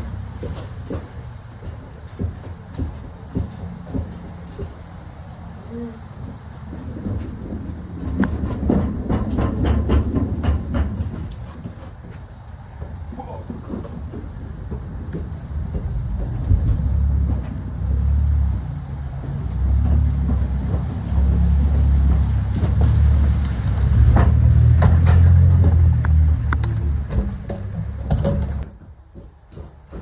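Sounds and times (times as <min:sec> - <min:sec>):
motor vehicle rumble: 0:00.0 - 0:30.0.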